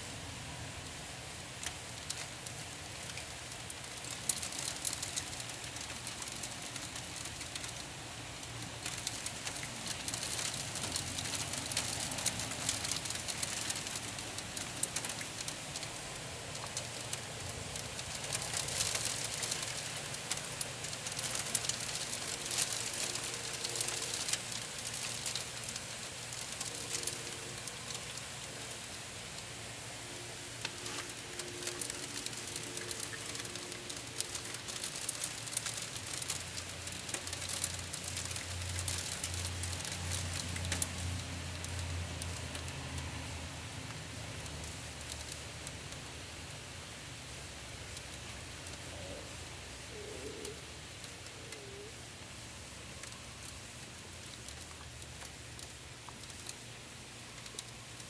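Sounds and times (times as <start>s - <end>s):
faint steady hum: 0.0s - 58.0s
hail and rain falling: 0.9s - 58.0s.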